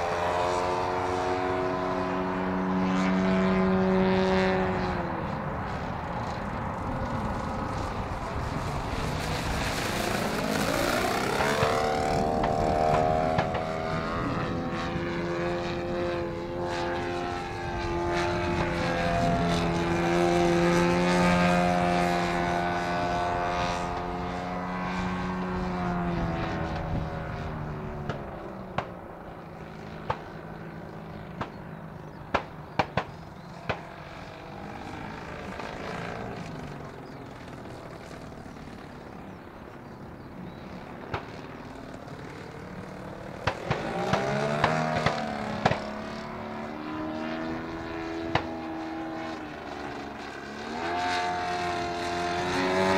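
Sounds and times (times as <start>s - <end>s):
model plane engine and propeller: 0.0s - 52.9s.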